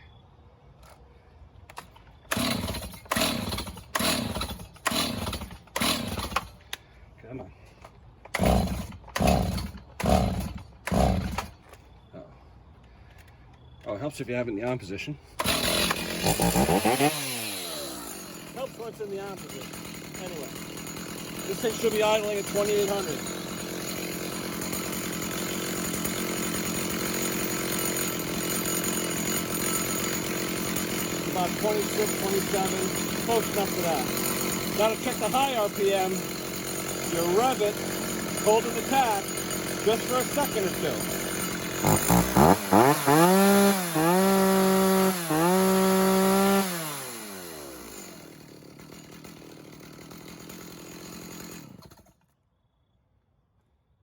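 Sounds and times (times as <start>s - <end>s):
chainsaw idling: 1.7s - 7.0s, 7.8s - 11.8s, 14.7s - 52.3s.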